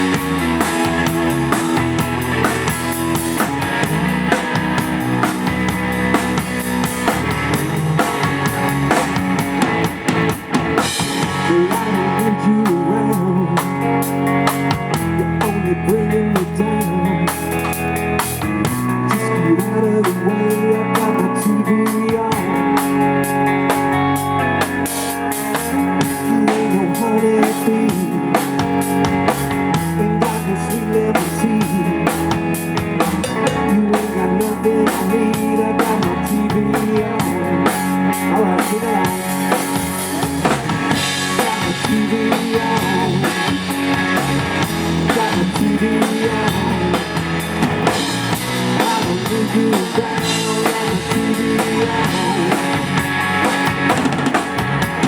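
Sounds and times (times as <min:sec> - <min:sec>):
drum kit: 0:00.0 - 0:55.0
guitar: 0:00.0 - 0:55.0
live rock band playing: 0:00.0 - 0:55.0.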